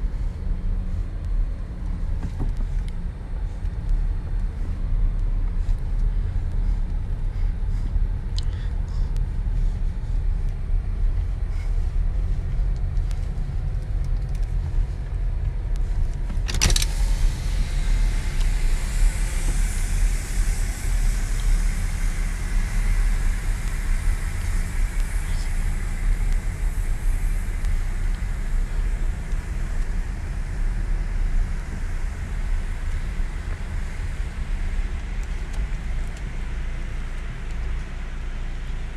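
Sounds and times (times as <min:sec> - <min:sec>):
car wash low rumble: 0:00.0 - 0:38.9
car wash steady hiss: 0:00.0 - 0:38.9.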